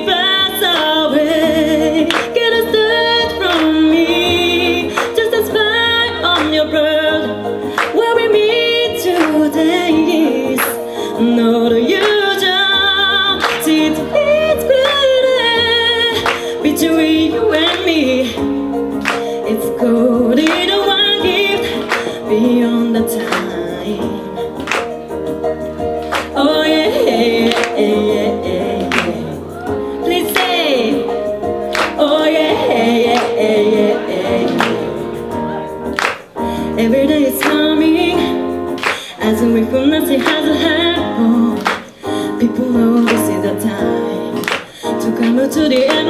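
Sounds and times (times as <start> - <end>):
woman singing with vibrato: 0.0 - 24.5, 26.1 - 35.4, 36.6 - 46.0
instrumental backing with beat: 0.0 - 46.0.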